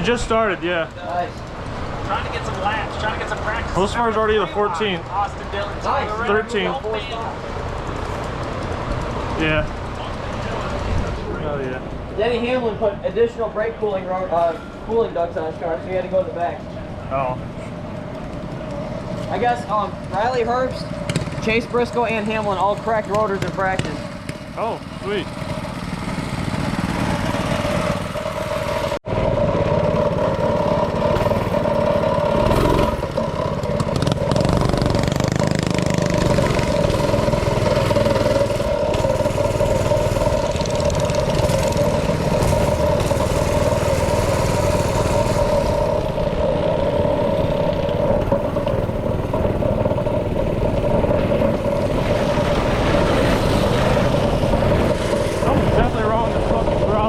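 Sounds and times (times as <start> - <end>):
engine droning at high speed: 0.0 - 57.0.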